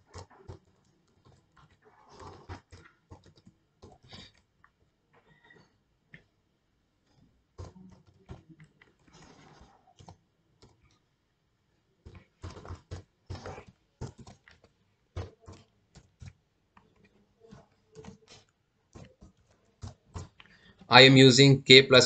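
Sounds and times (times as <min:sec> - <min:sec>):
typing on computer keyboard: 0:00.0 - 0:06.3, 0:07.0 - 0:11.0, 0:12.1 - 0:20.9.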